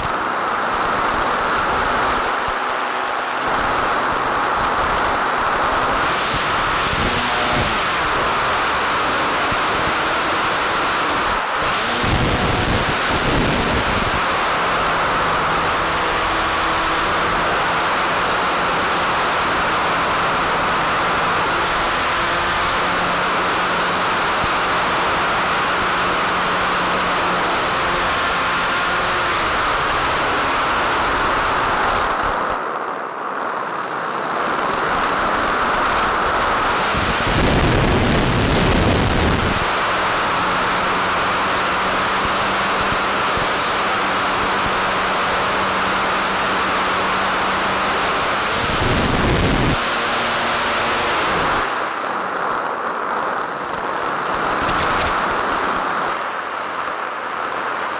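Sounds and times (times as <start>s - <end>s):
airflow and motor rushing: 0.0s - 57.9s.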